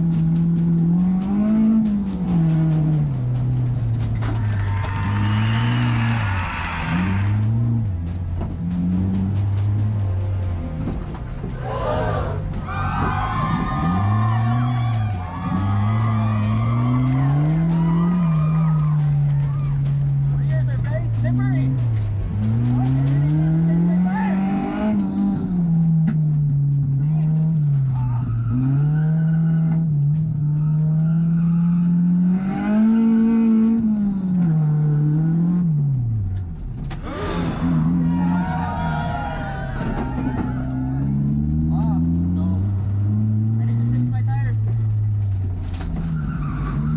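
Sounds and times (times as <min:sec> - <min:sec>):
background music: 0:00.0 - 0:46.9
race car engine accelerating: 0:00.0 - 0:46.9.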